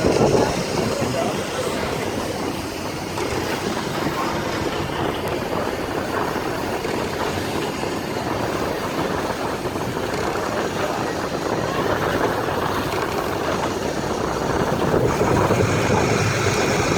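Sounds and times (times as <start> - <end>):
boat motor rumble: 0.0 - 16.9
water rushing past hull: 0.0 - 16.9.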